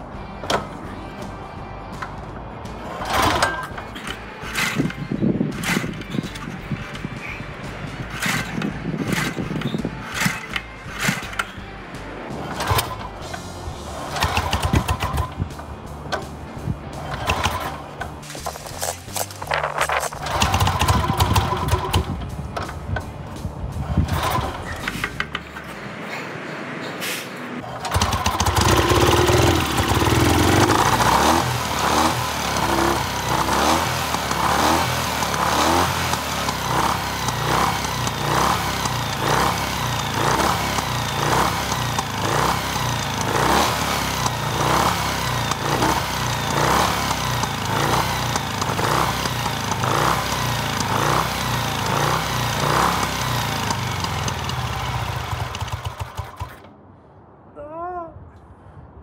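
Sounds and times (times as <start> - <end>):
motorcycle engine running: 1.9 - 25.5, 27.6 - 56.7.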